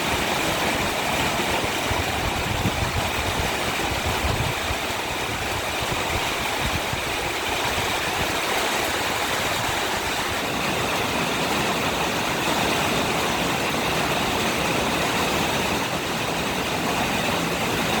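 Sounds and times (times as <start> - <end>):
storm wind and rain rushing: 0.0 - 18.0
wind buffeting microphone: 0.0 - 18.0.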